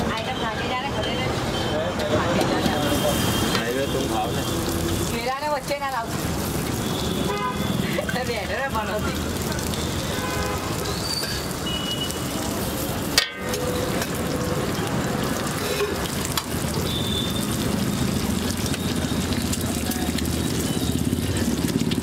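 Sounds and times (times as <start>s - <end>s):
eggs sizzling on a griddle: 0.1s - 22.0s.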